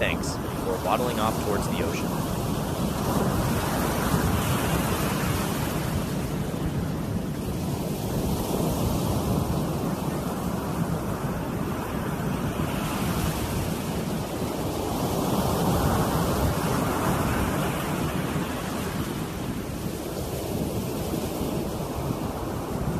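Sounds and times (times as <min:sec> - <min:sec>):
ocean surf washing ashore: 0:00.0 - 0:22.9.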